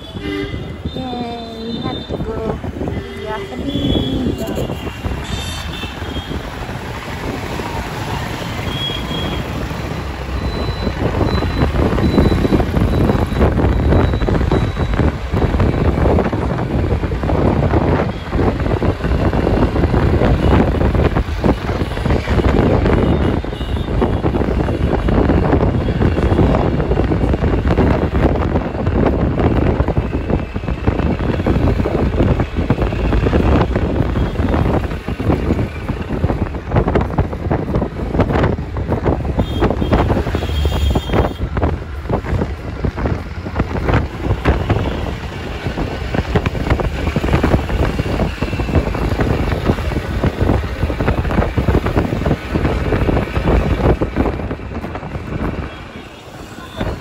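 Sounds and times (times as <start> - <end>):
passing traffic: 0.0 - 57.0
wind buffeting microphone: 0.0 - 57.0.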